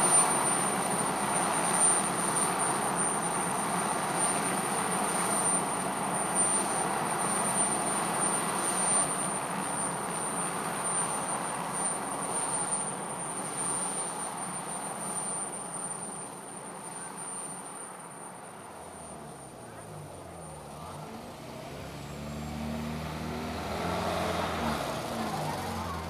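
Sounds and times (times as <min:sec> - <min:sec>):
helicopter engine and rotor rushing: 0:00.0 - 0:26.0.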